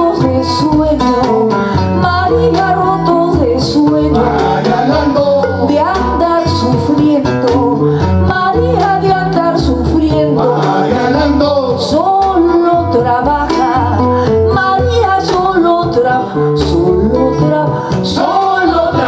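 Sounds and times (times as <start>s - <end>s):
bass line: 0.0s - 19.0s
plucked guitar: 0.0s - 19.0s
woman singing into microphone: 0.0s - 19.0s.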